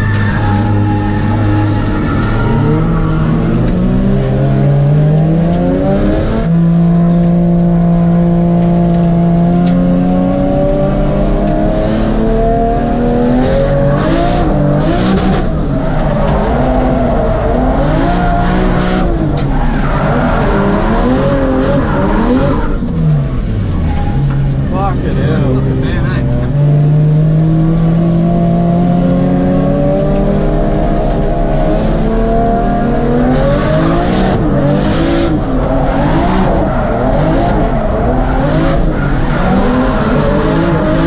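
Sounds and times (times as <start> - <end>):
car engine revving: 0.0 - 41.0
tyres skidding: 0.0 - 41.0.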